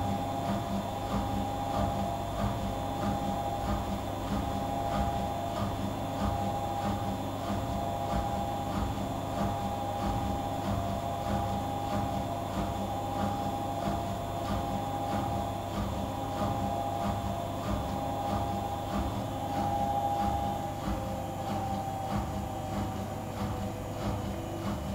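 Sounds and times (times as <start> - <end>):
washing machine spinning: 0.0 - 24.9.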